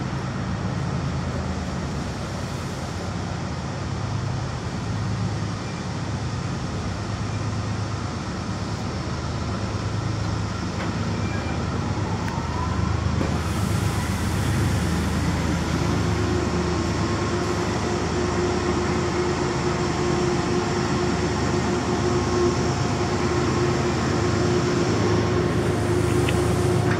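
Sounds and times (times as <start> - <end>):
train hum: 0.0 - 26.9
train rumbling past: 0.0 - 26.9.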